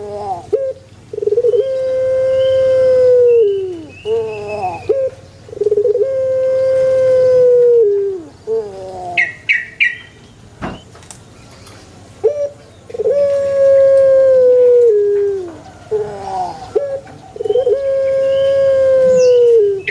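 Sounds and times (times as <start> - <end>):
dove cooing: 0.0 - 10.1, 12.2 - 19.9.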